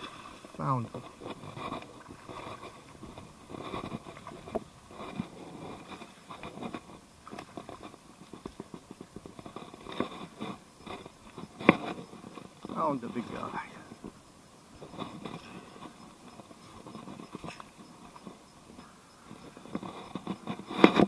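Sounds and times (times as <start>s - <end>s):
clicks and scrapes: 0.9s - 14.0s, 14.8s - 21.0s.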